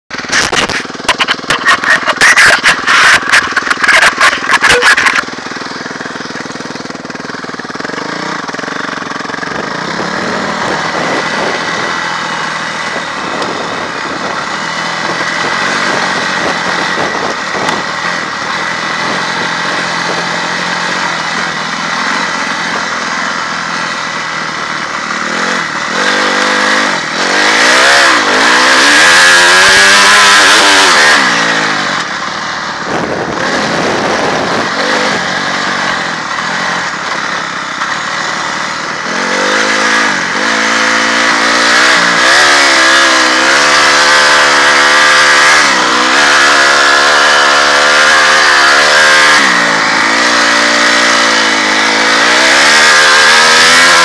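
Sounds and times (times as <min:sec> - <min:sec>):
motorbike engine revving: 0:00.1 - 0:54.0
rapid engine clattering: 0:00.1 - 0:54.0.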